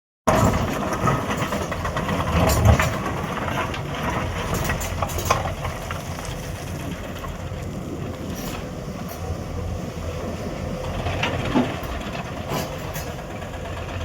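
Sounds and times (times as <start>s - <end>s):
machine clanks and scrapes: 0.3s - 7.4s, 8.2s - 9.4s, 10.8s - 14.0s
excavator diesel engine running: 0.3s - 14.0s.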